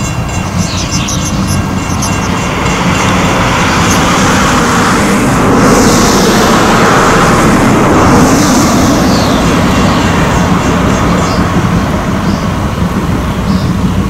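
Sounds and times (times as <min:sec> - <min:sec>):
steam hissing: 0:00.0 - 0:14.0
steam locomotive rumble: 0:00.0 - 0:14.0.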